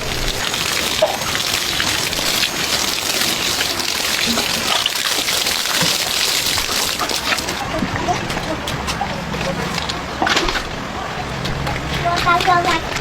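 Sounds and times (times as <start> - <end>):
small water splashes: 0.0 - 10.7
steady water: 0.0 - 13.0.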